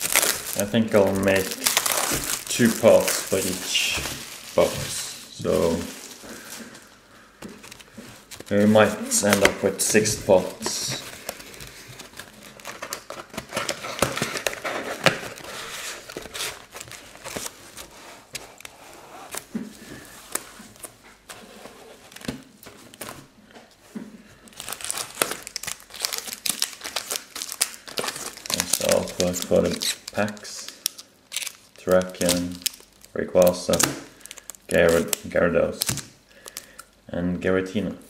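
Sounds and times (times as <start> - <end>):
foil wrappers crinkling: 0.0 - 20.9, 24.4 - 36.8.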